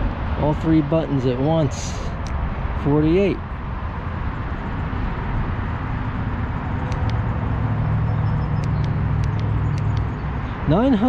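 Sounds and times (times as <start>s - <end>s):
road traffic rumble: 0.0s - 11.0s
vehicle engine hum: 0.0s - 11.0s.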